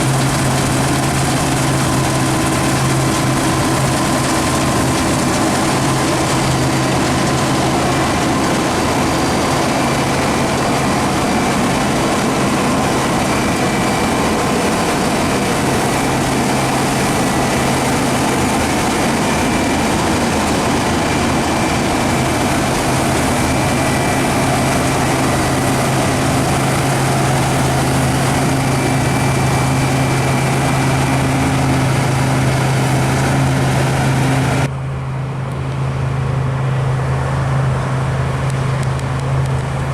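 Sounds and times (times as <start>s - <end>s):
threshing machinery whirring: 0.0s - 34.7s
combine harvester engine hum: 0.0s - 39.9s.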